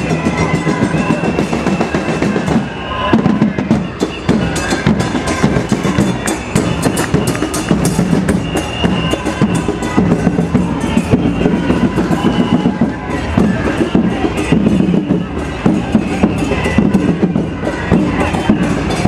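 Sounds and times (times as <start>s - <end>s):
crowd noise: 0.0s - 19.0s
street percussion drumming: 0.0s - 19.0s.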